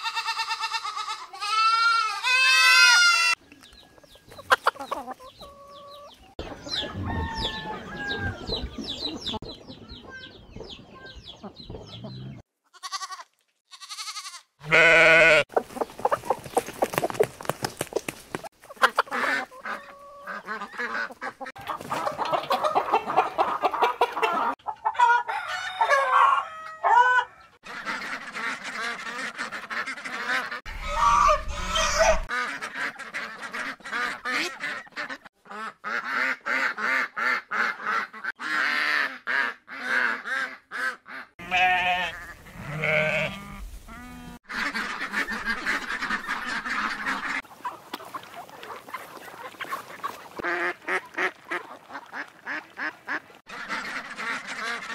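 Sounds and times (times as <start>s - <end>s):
poultry clucking and honking: 0.0s - 54.9s.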